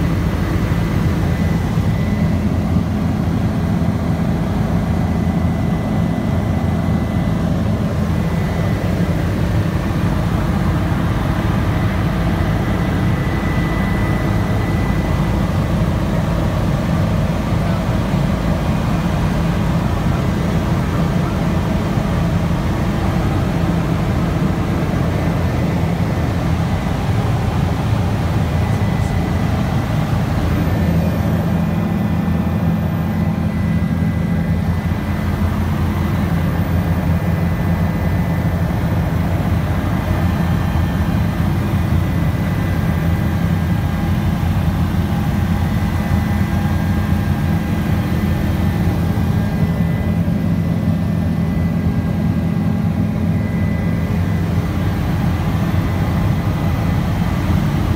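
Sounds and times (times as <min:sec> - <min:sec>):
faint high whine: 0:00.0 - 0:57.9
helicopter rotor and engine throb: 0:00.0 - 0:57.9.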